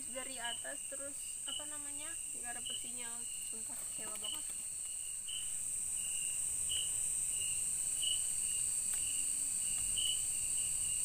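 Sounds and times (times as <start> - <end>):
insect chirping: 0.0 - 11.0
insects high-pitched drone: 0.0 - 11.0.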